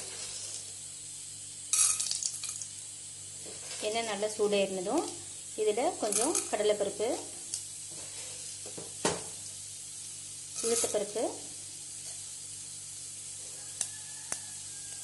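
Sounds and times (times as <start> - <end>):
lentils sizzling in oil: 0.0 - 15.0.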